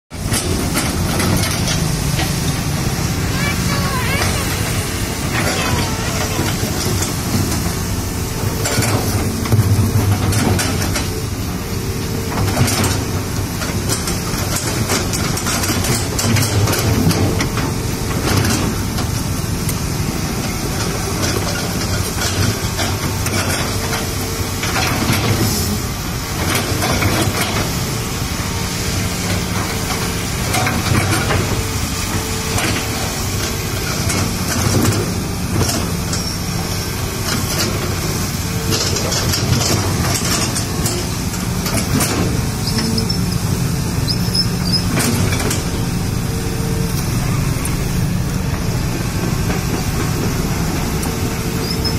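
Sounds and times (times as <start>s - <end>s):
excavator diesel engine running: 0.1s - 51.9s.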